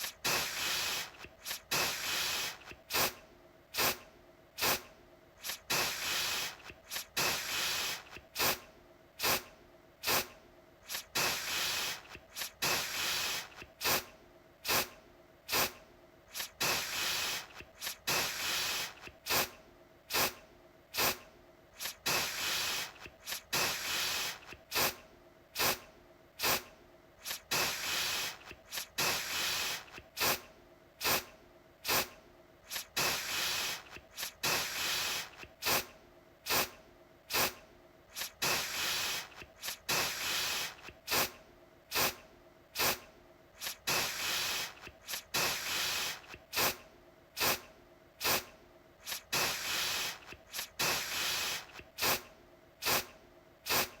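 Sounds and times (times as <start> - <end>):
aerosol can spraying: 0.0 - 3.2, 3.8 - 4.0, 4.6 - 8.6, 9.2 - 14.9, 15.5 - 20.4, 21.0 - 21.2, 21.8 - 25.0, 25.6 - 25.8, 26.4 - 35.9, 36.5 - 42.2, 42.8 - 43.0, 43.6 - 46.8, 47.4 - 47.6, 48.2 - 54.0.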